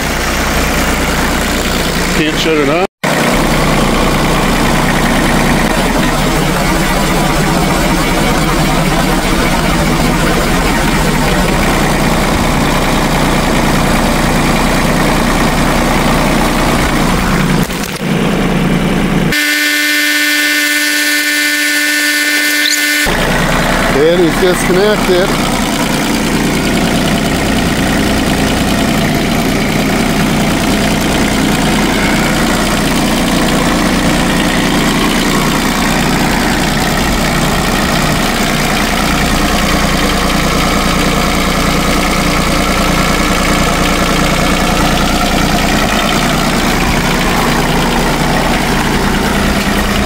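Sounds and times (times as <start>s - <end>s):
tractor diesel engine idling: 0.0s - 50.0s.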